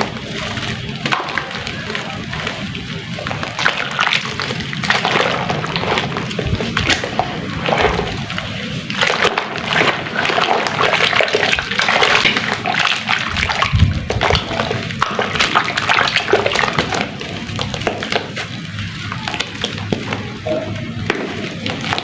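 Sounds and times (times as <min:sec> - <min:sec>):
sand and cement crackling in water: 0:00.0 - 0:22.0
water sloshing: 0:00.0 - 0:22.0.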